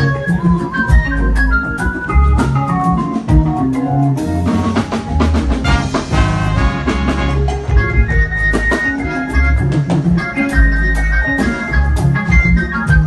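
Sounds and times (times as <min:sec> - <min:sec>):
drum kit beat: 0:00.0 - 0:13.0
heavy bass line: 0:00.0 - 0:13.0
held keyboard chords: 0:00.0 - 0:13.0.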